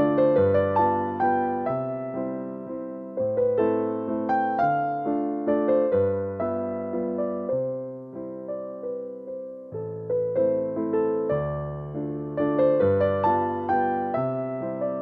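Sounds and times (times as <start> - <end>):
electric piano melody: 0.0 - 15.0.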